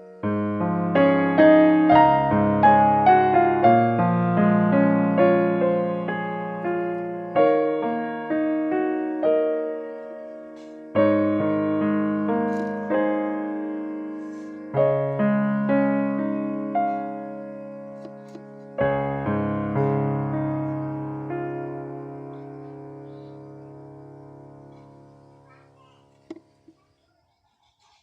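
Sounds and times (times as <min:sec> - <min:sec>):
gentle piano music: 0:00.0 - 0:26.7.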